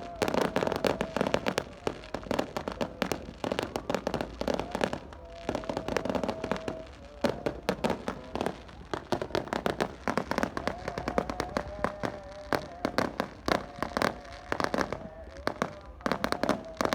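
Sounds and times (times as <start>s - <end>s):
firecrackers popping and crackling: 0.0s - 16.9s.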